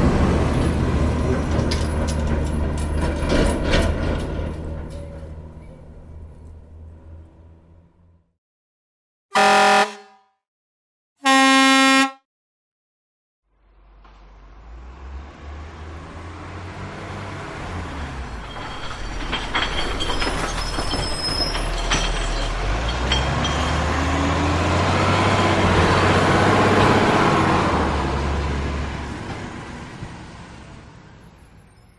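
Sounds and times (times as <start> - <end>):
heavy truck engine rumble: 0.0 - 8.2, 13.5 - 31.9.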